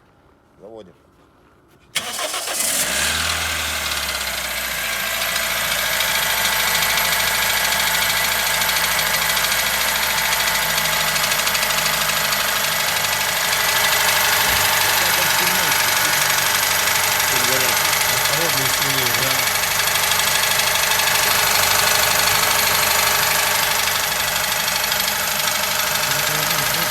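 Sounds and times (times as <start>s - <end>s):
car engine starting and idling: 2.0s - 26.9s
engine knocking: 2.0s - 26.9s.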